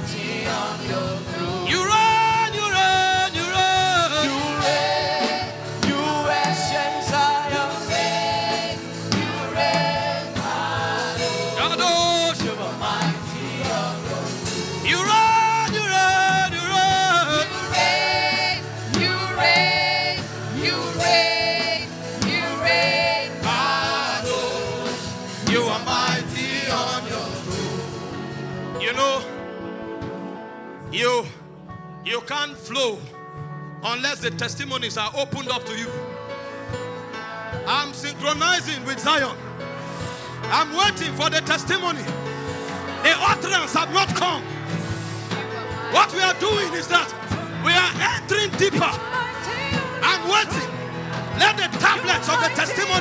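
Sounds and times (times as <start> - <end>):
voices singing gospel song: 0.0 - 29.4, 37.8 - 53.0
instrumental backing: 0.0 - 53.0.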